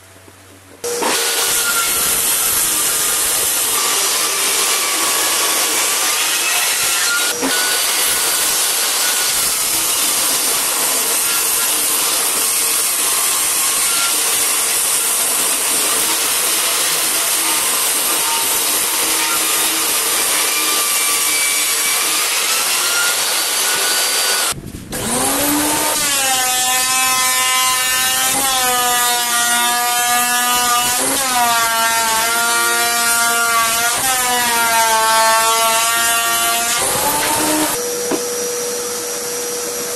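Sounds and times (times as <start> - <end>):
table saw ripping a board: 0.8 - 38.2
thickness planer whine: 0.8 - 39.9.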